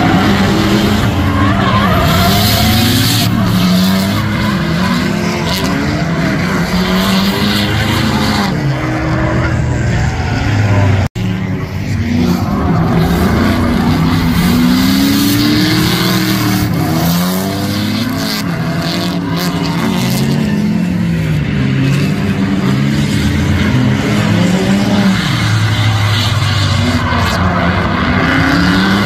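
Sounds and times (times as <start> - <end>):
car engines revving hard: 0.0 - 29.0
tyres squealing and skidding: 0.0 - 29.0.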